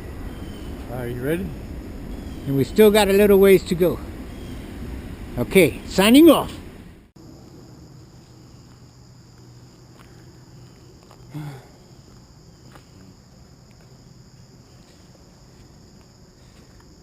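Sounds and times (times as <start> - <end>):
insects chirping: 0.0 - 6.5, 7.2 - 17.0.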